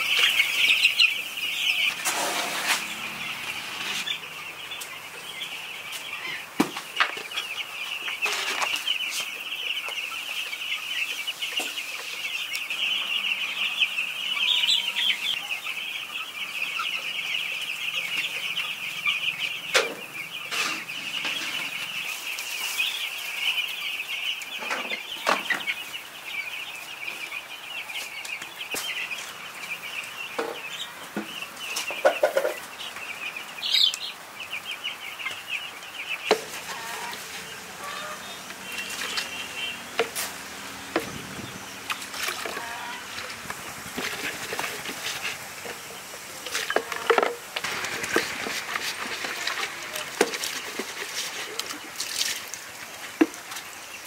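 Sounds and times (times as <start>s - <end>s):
chickens calling in chorus: 0.0s - 54.0s.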